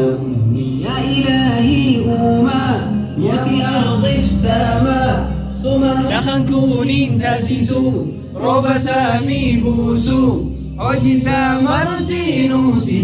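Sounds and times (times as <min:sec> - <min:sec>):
man singing devotional melody: 0:00.0 - 0:13.0.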